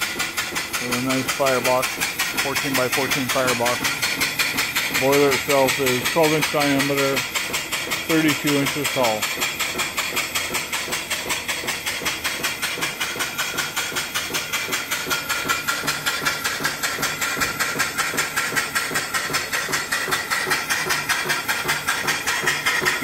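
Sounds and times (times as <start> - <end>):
steam engine exhaust chuffing: 0.0 - 23.0
steam hissing: 0.0 - 23.0.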